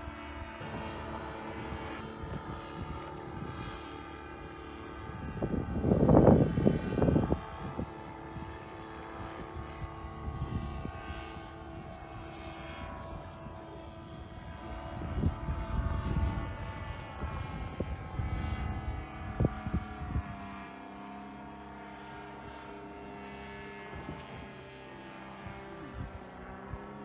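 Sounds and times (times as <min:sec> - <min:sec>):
paramotor engine droning overhead: 0:00.0 - 0:27.0
wind buffeting microphone: 0:00.0 - 0:27.0.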